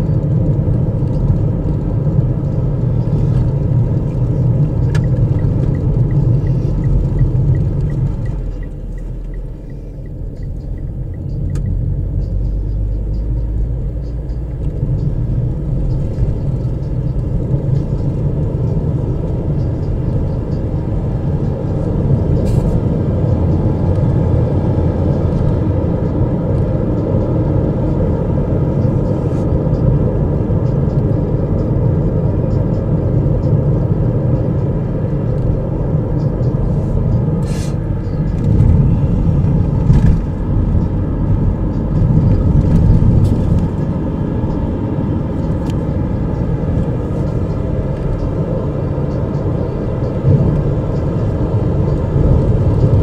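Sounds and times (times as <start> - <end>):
car engine and tyres rumbling: 0.0 - 53.0.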